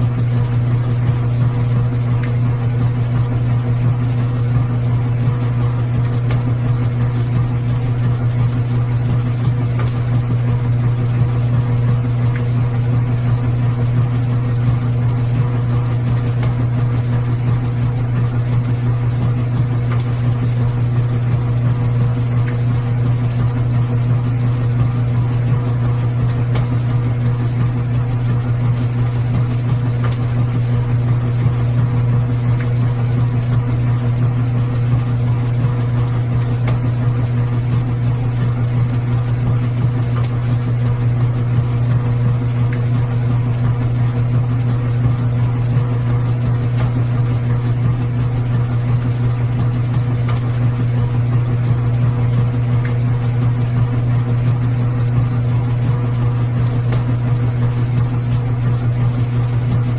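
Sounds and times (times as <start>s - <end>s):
washing machine humming: 0.0s - 59.9s.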